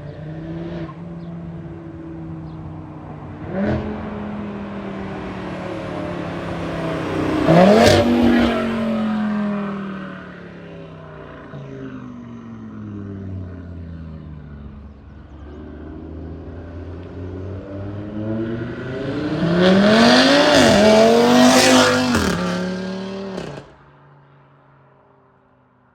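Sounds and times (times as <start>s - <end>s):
car engine accelerating: 0.0s - 23.7s.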